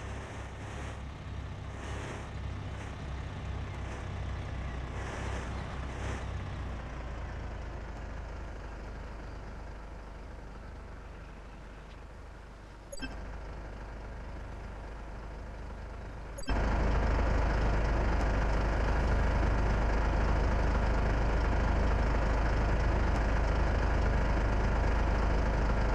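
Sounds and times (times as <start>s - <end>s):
truck engine rumbling: 0.0s - 25.9s.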